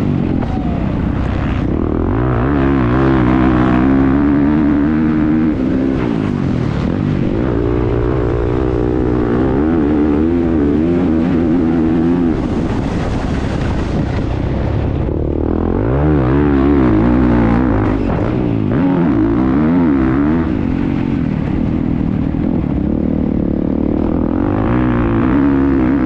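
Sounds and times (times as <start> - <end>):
motorcycle engine revving: 0.0 - 26.0
rushing wind noise: 0.0 - 26.0.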